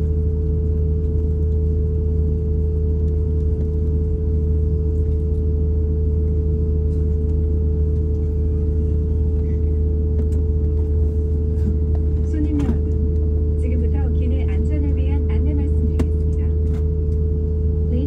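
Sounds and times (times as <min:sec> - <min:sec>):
aircraft cabin rumble: 0:00.0 - 0:18.0
steady hum: 0:00.0 - 0:18.0.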